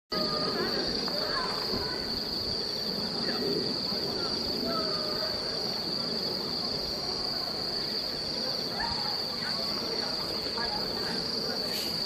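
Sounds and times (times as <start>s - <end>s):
crickets chirping: 0.1s - 12.0s
crowd talking: 0.1s - 12.0s.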